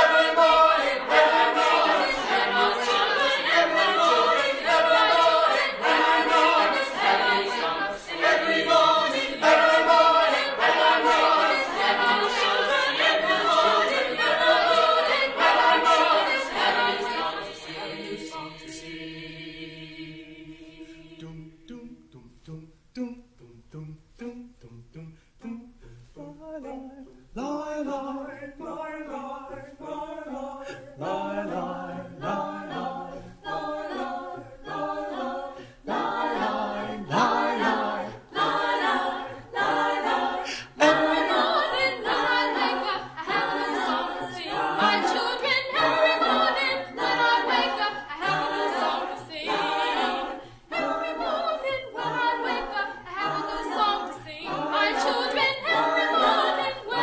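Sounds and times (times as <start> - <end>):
group singing unaccompanied: 0.0 - 57.0.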